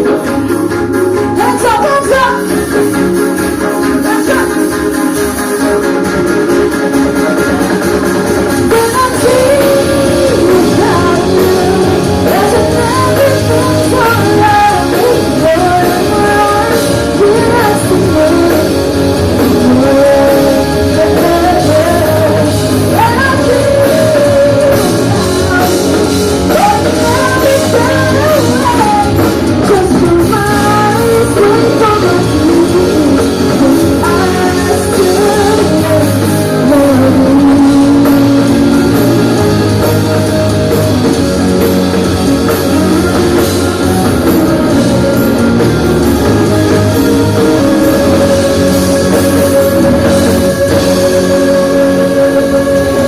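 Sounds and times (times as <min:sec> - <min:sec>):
bass line: 0:00.0 - 0:53.0
lead singer singing: 0:00.0 - 0:53.0
live rock band: 0:00.0 - 0:53.0.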